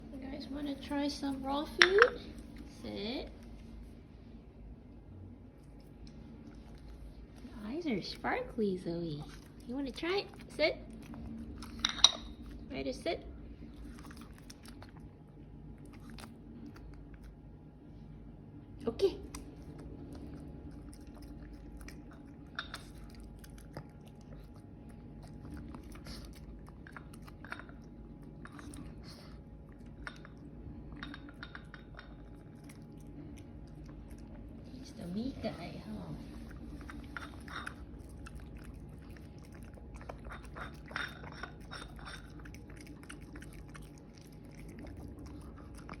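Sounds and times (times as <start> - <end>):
dog chewing wet food: 0.0 - 46.0.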